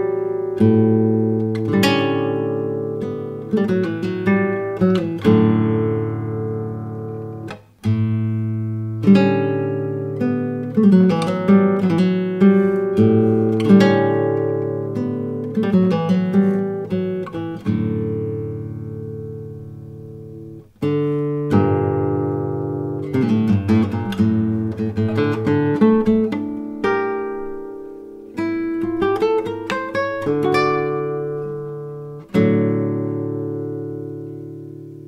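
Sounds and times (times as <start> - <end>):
acoustic guitar picking and strumming: 0.0 - 35.0.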